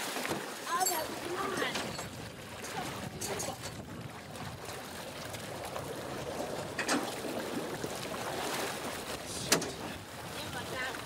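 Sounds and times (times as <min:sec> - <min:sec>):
floodwater sloshing and splashing: 0:00.0 - 0:11.0.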